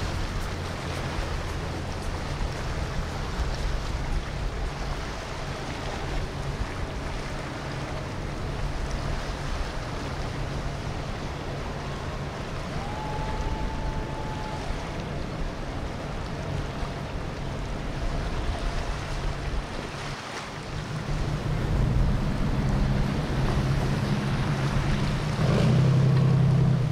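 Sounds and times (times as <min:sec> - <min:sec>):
boat engine drone: 0:00.0 - 0:26.9
water wash: 0:00.0 - 0:26.9.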